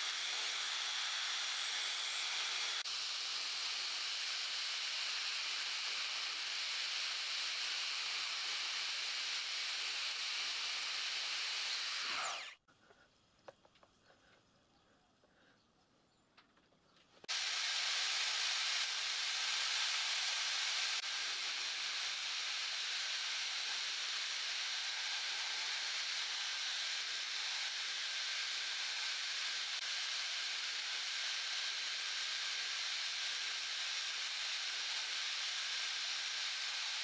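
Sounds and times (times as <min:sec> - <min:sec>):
engraving spindle hissing: 0:00.0 - 0:12.6, 0:17.2 - 0:37.0.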